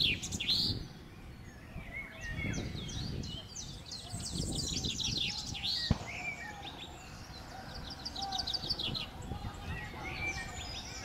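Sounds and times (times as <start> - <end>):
birds chirping: 0.0 - 11.0
distant crowd murmur: 0.0 - 11.0.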